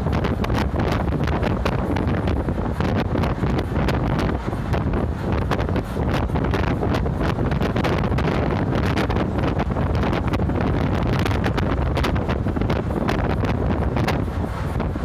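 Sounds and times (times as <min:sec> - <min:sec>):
moving bus rumble: 0:00.0 - 0:15.0
wind buffeting microphone: 0:00.0 - 0:15.0.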